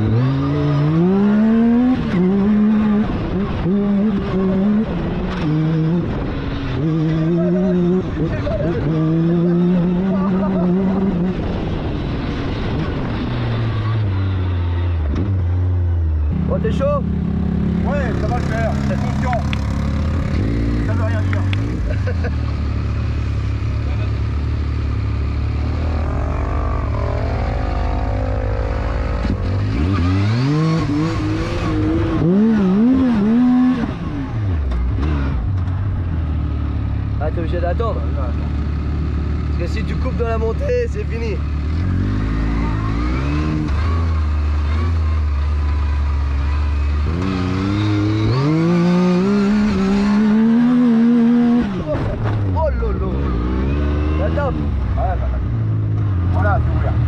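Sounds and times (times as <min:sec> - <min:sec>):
buggy engine running: 0:00.0 - 0:57.0.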